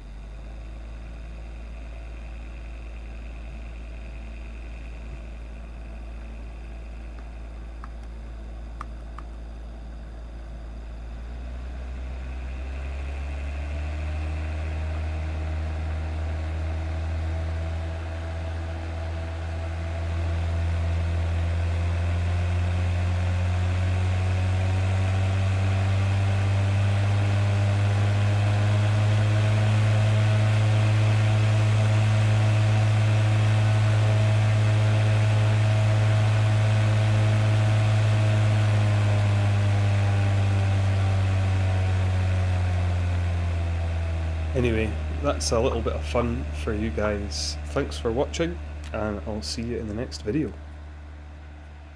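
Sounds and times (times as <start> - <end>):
fan humming: 0.0 - 51.9.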